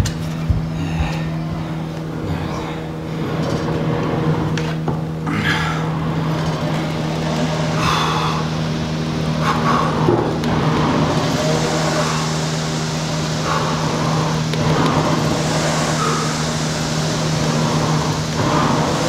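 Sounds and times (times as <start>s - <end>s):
rowing machine flywheel whirring: 0.0s - 19.0s.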